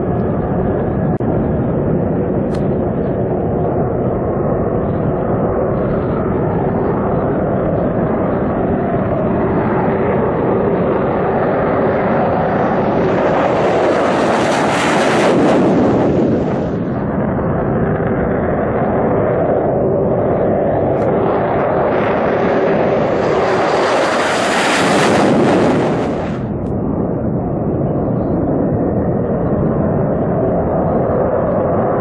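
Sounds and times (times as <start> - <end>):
jet roar: 0.0 - 32.0.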